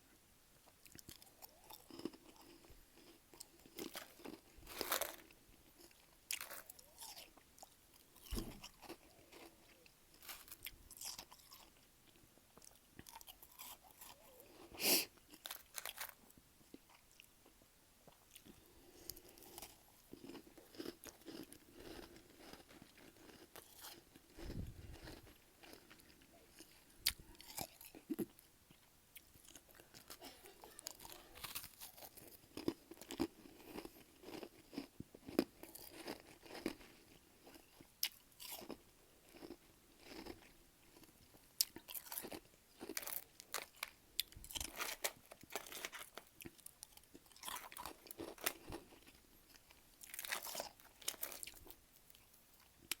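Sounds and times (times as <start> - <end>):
crunching and chewing frost: 0.6 - 53.0.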